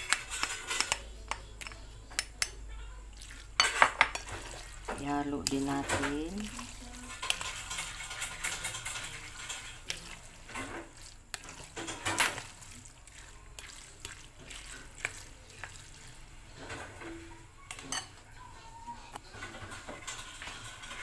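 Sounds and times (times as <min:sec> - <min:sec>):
spatula stirring wet food: 0:00.0 - 0:21.0.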